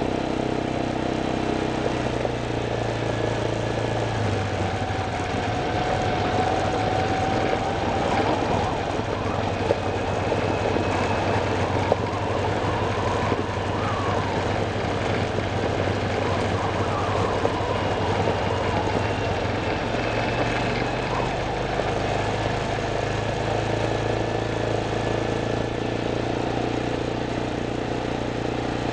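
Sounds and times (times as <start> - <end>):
vehicle engine rumbling: 0.0 - 28.9.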